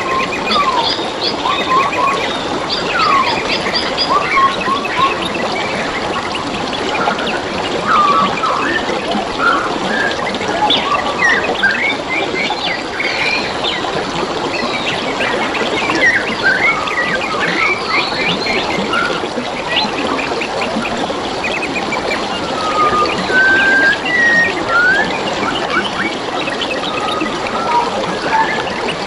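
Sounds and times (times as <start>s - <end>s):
small birds chirping: 0.0s - 29.0s
water trickling and babbling: 0.0s - 29.0s.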